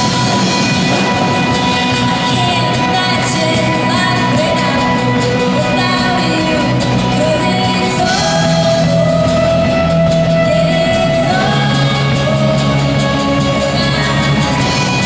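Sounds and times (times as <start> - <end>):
band playing: 0.0 - 15.0
person singing: 1.4 - 15.0.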